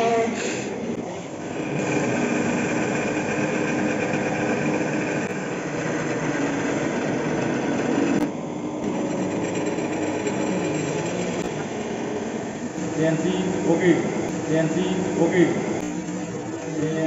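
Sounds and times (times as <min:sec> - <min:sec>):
lathe motor whine: 0:00.0 - 0:17.0
lathe tool cutting wood: 0:00.0 - 0:17.0.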